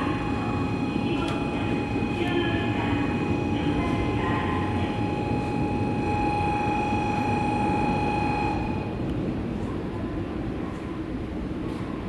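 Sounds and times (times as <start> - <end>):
train high whine: 0.0 - 12.0
train low rumble: 0.0 - 12.0.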